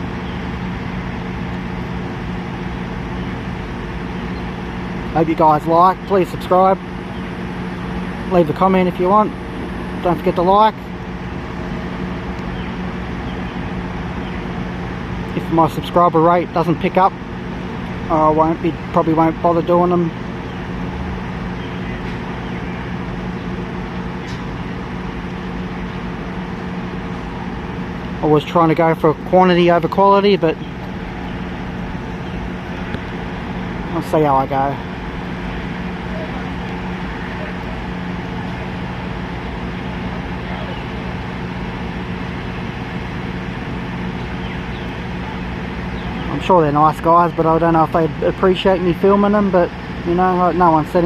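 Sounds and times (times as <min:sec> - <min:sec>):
engine running with low hum: 0:00.0 - 0:51.0
outdoor noise: 0:00.0 - 0:51.0.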